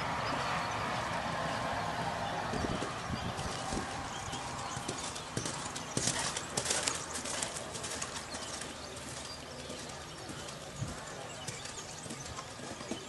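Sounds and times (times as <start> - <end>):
horse hoofbeats on grass: 1.3 - 13.0.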